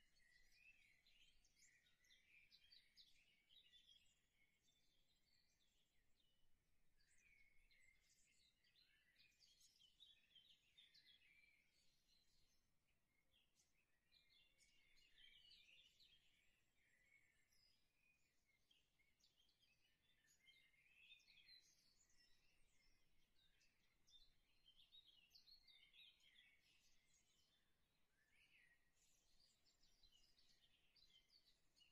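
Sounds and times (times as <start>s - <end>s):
faint bird chirping: 0.0s - 31.9s.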